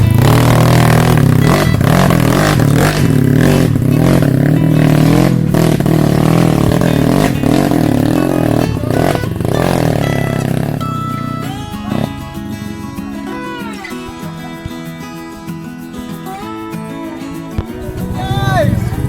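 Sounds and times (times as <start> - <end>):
motorcycle engine revving: 0.0 - 16.7, 17.4 - 19.0.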